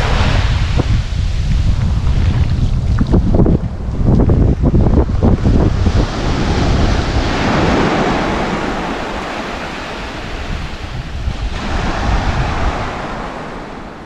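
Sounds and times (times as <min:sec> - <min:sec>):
waves breaking on beach: 0:00.0 - 0:02.5, 0:04.4 - 0:14.0
wind rumbling on microphone: 0:00.0 - 0:14.0.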